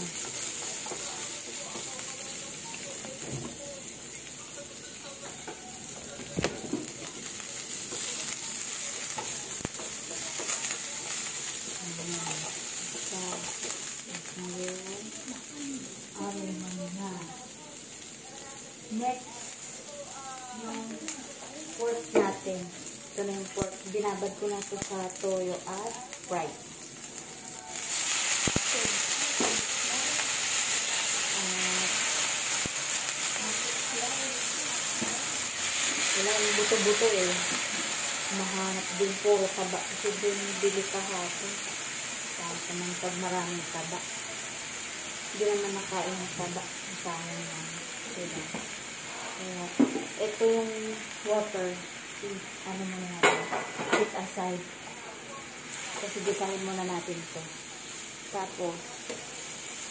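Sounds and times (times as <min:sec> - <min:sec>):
onions sizzling in a frying pan: 0:00.0 - 0:59.9.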